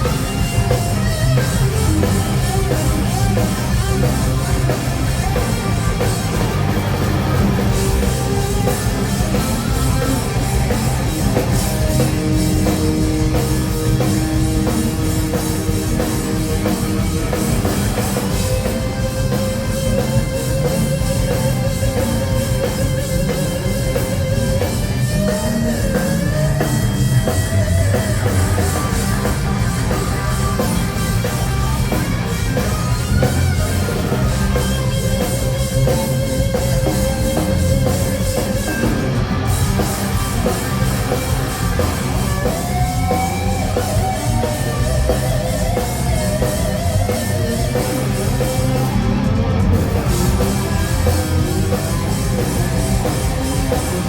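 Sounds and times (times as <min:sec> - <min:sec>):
electric guitar lead bending notes: 0:00.0 - 0:54.0
live rock band playing: 0:00.0 - 0:54.0.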